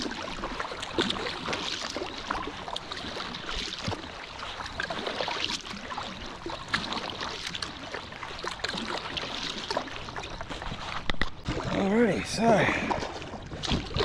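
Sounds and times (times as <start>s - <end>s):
paddle blades dipping into water: 0.0s - 14.0s
water trickling off paddle: 0.0s - 14.0s.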